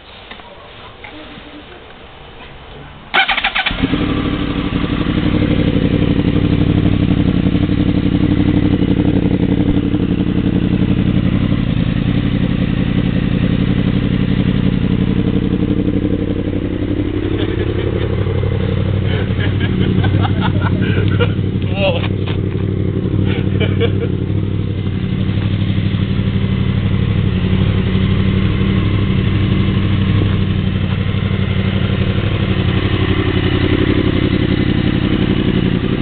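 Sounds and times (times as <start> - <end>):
motorcycle engine starting: 3.1 - 36.0
motorcycle engine idling loud: 3.5 - 36.0.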